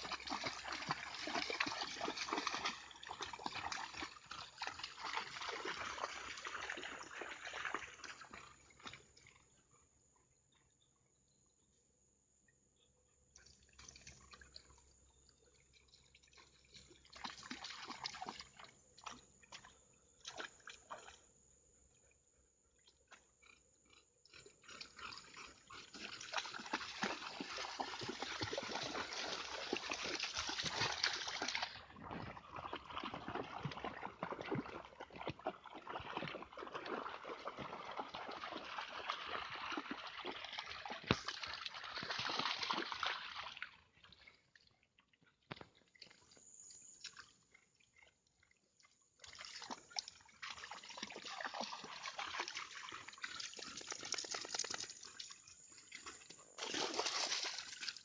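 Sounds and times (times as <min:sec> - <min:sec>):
dogs splashing through water: 0:00.0 - 0:09.6, 0:13.4 - 0:15.0, 0:15.6 - 0:21.3, 0:24.3 - 0:58.0.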